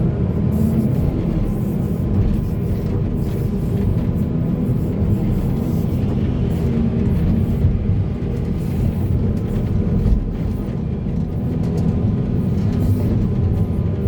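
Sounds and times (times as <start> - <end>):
heavy diesel machinery droning: 0.0 - 14.0.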